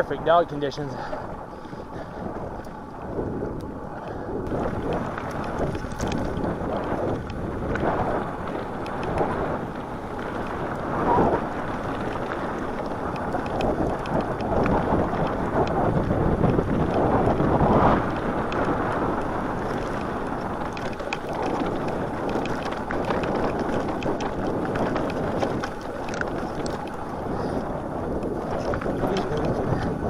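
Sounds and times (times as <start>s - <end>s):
bike clicks and rattles: 0.0s - 30.0s
wind buffeting microphone: 0.0s - 30.0s.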